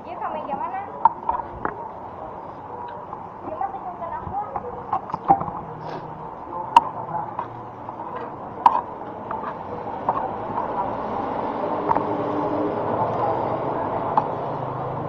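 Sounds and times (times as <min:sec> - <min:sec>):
murmur of diners' voices: 0:00.0 - 0:15.0.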